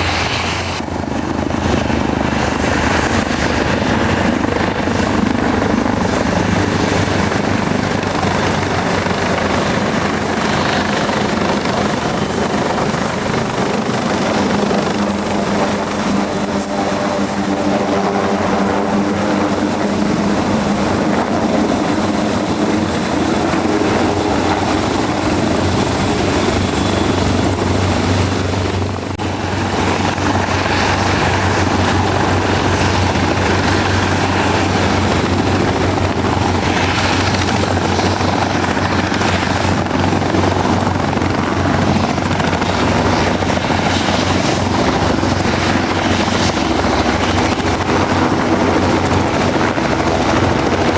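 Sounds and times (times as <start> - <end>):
helicopter rotor and engine: 0.0 - 50.9.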